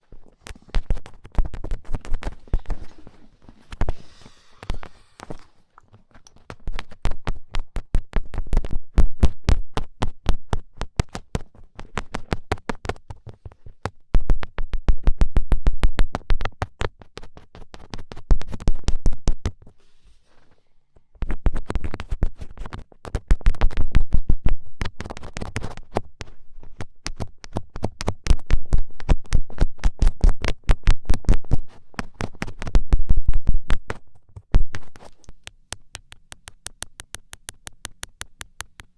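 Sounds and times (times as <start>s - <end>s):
rapid fingertip taps: 0.4s - 2.8s, 6.4s - 19.7s, 21.2s - 38.9s.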